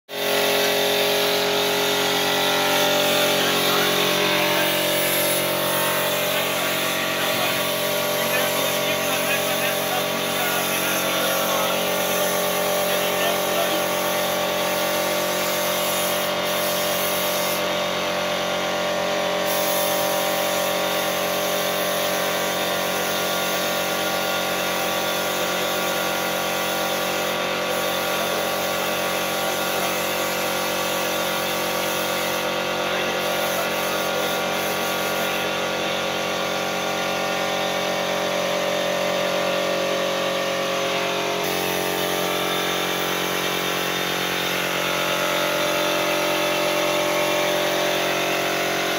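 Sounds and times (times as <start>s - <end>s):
air compressor running: 0.1s - 48.9s
paint spray gun hissing: 0.1s - 48.9s.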